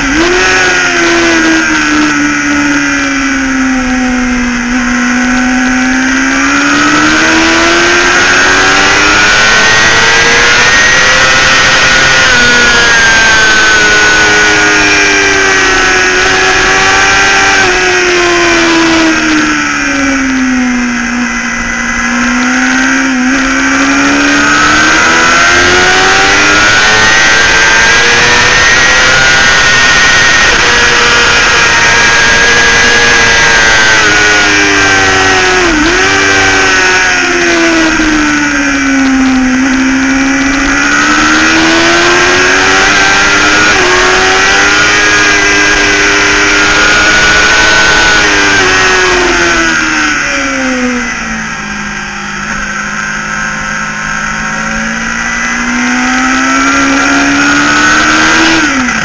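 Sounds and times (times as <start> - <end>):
motorcycle engine at high revs: 0.0 - 59.0
wind noise: 0.0 - 59.0.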